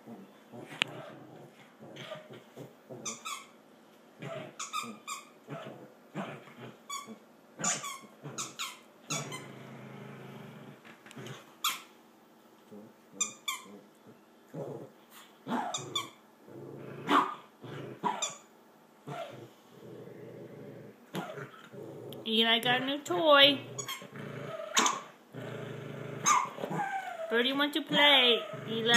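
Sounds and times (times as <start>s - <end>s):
dog growling: 0.0s - 3.5s, 4.2s - 11.5s, 12.6s - 18.4s, 19.0s - 28.9s.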